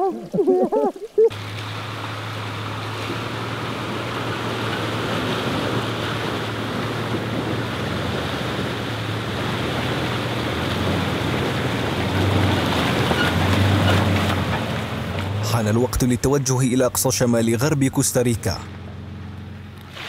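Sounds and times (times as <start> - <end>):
water rushing and splashing: 0.0 - 20.0
car engine running: 1.3 - 20.0.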